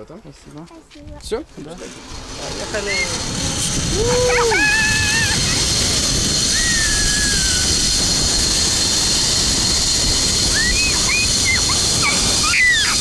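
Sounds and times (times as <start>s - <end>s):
wind rushing over microphone: 1.0s - 13.0s
pulley whine: 2.0s - 13.0s
high squeals: 2.2s - 13.0s.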